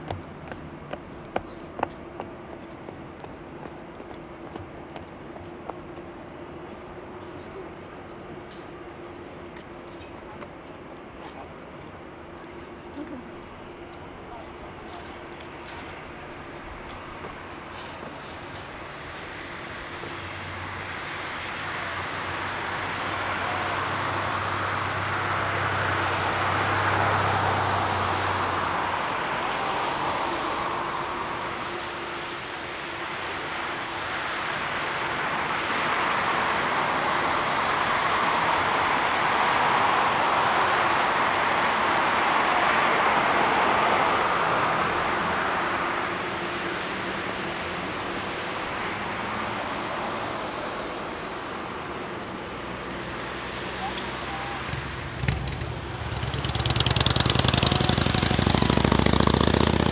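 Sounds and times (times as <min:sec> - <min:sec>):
jet engine roar: 0:00.9 - 0:59.9.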